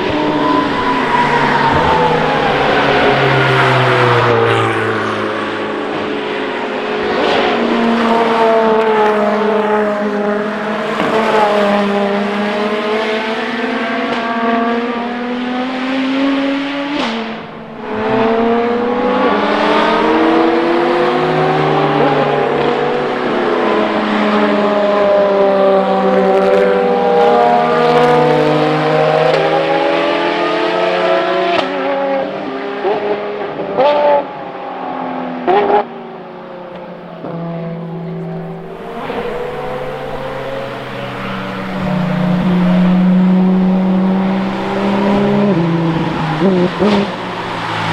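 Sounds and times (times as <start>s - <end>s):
race cars passing at speed: 0.0s - 47.9s.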